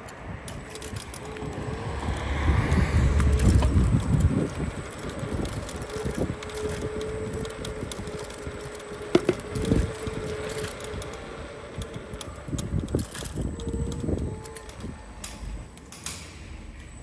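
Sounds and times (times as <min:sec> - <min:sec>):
electric scooter motor whine: 0:00.0 - 0:16.0
scooter frame rattling: 0:00.0 - 0:16.0.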